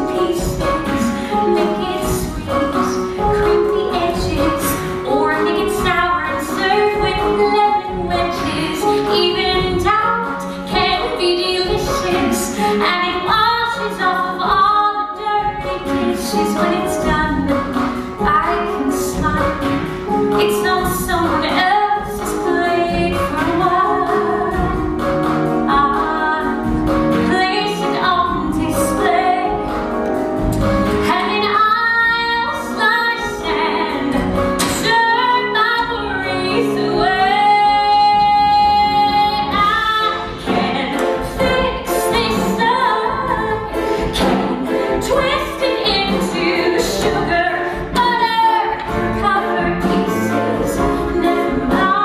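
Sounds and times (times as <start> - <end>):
woman singing: 0.0 - 30.0, 31.0 - 52.0
band accompaniment: 0.0 - 52.0.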